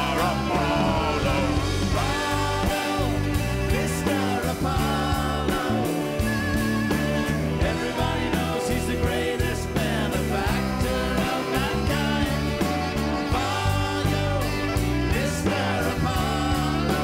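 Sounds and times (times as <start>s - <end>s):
person singing: 0.0s - 6.3s, 7.0s - 17.0s
rock band playing: 0.0s - 17.0s.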